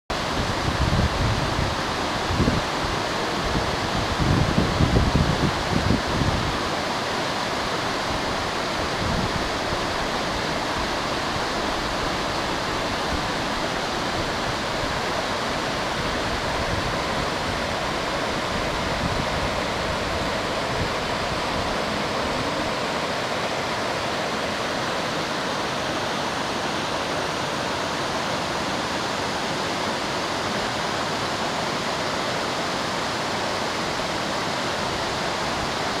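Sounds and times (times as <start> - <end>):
waterfall rushing over rock: 0.1 - 36.0.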